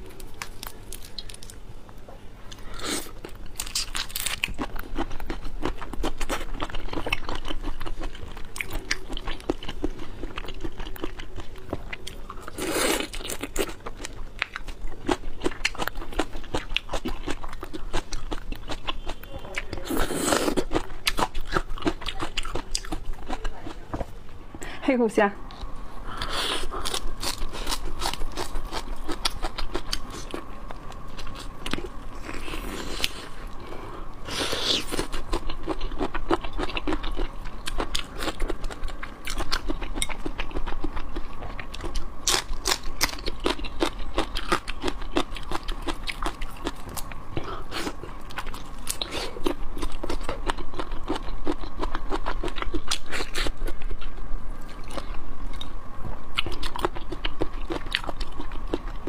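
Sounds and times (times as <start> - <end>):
chewing and crunching shrimp: 0.0 - 23.8, 25.4 - 59.0.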